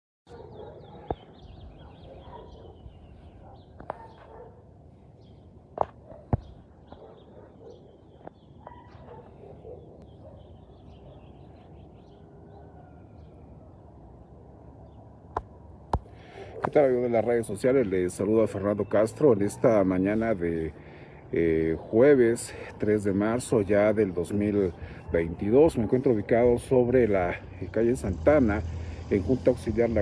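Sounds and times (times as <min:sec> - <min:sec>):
birds chirping: 0:00.3 - 0:30.0.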